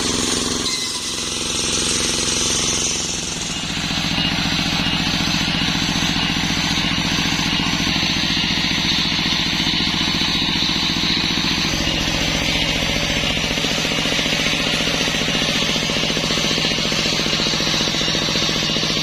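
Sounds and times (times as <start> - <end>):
sawmill engine running: 0.0 - 19.0
spinning saw hiss: 0.0 - 19.0.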